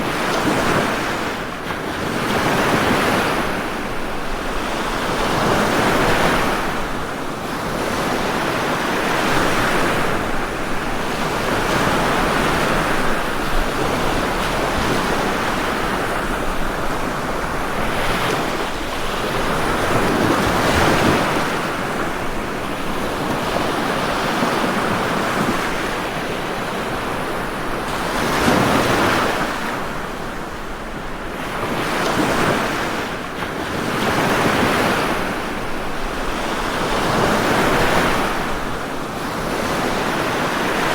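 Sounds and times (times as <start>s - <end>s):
ocean waves washing on shore: 0.0s - 40.9s.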